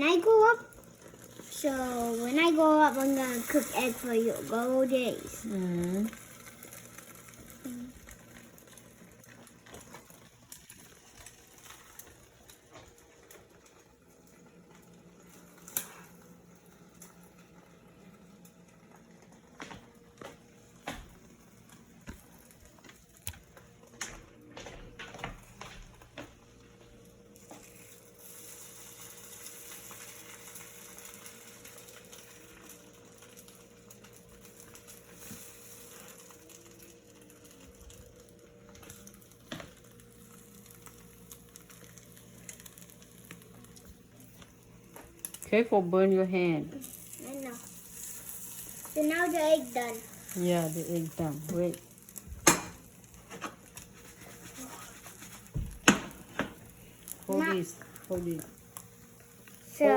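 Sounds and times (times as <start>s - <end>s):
eggs sizzling in a pan: 0.0s - 24.0s, 26.3s - 59.9s.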